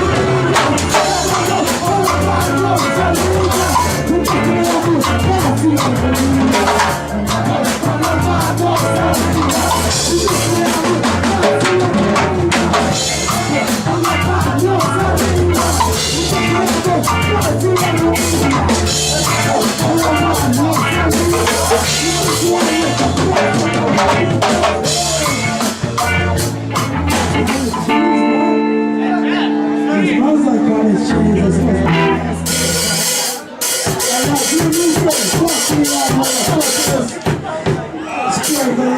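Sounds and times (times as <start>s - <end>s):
drum kit hitting fast: 0.0s - 27.9s, 32.4s - 37.9s
ska-punk band playing: 0.0s - 38.9s.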